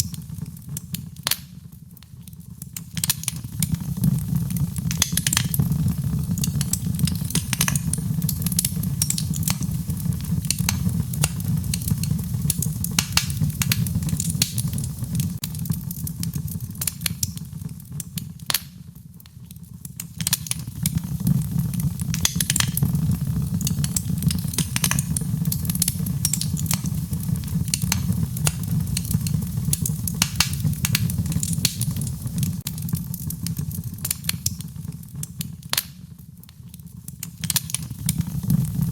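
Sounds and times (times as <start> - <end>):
fire pops and snaps: 0.0 - 38.9
low fire rumble: 0.0 - 38.9
wood fire crackling: 0.0 - 38.9.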